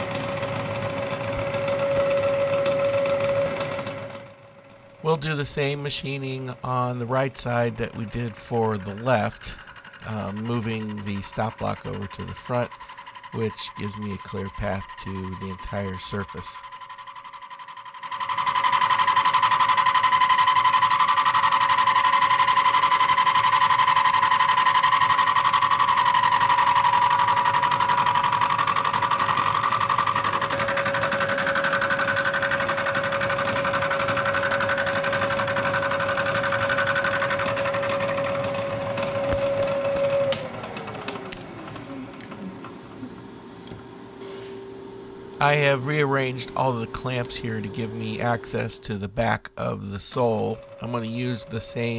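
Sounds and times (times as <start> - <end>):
spindle winding down: 0.0 - 43.4, 45.2 - 51.9
milling machine cutting metal: 5.1 - 42.8, 45.4 - 51.9.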